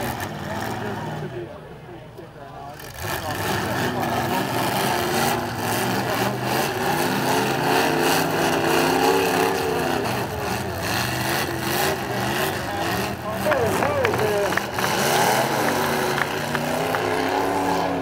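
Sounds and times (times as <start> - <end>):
car engines revving hard: 0.0 - 18.0.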